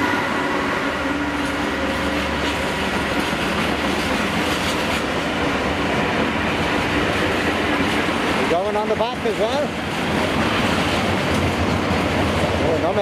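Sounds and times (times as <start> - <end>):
freight wagons rumbling: 1.2 - 13.0
wheels clattering over rail joints: 1.4 - 13.0.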